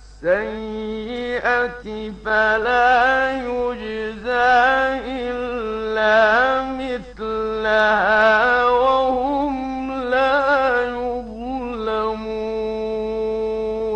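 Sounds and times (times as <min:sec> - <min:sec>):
man reciting melodically: 0:00.0 - 0:13.9.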